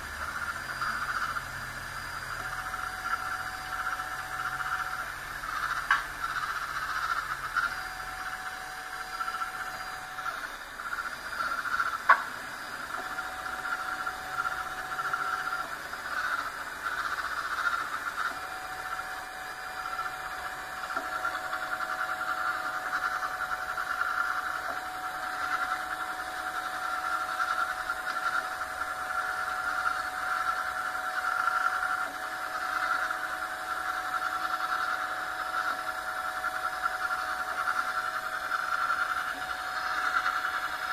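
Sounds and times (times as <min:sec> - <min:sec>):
continuous whir: 0:00.0 - 0:40.9
stepper motors whining: 0:00.0 - 0:40.9.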